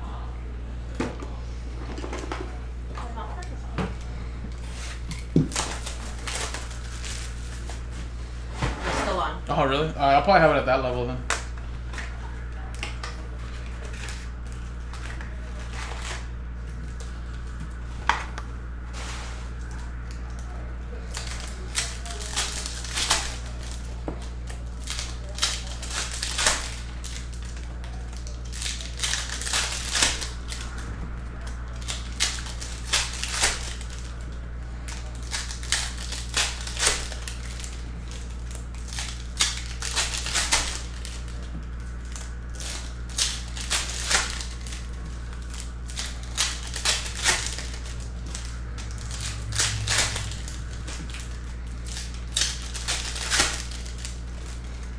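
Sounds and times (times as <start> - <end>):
low hum: 0.0 - 54.9
foil wrappers crinkling and tearing: 3.0 - 8.5, 10.0 - 54.9.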